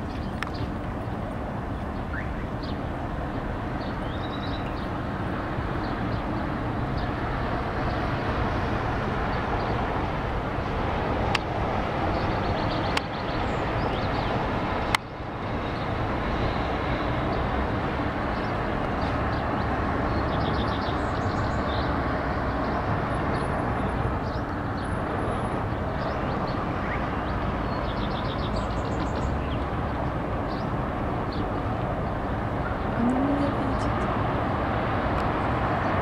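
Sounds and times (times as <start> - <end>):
songbirds chirping and trilling: 0.0 - 8.1, 11.2 - 17.6, 18.2 - 34.2
traffic rumble: 0.0 - 36.0.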